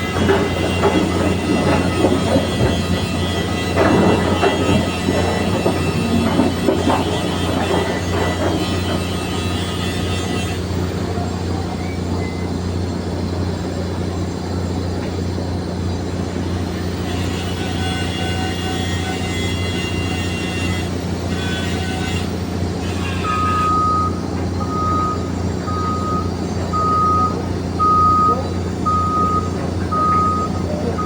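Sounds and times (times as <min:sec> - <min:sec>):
reversing alarm beeping: 0:00.0 - 0:12.7, 0:17.0 - 0:31.0
engine hum: 0:00.0 - 0:31.0.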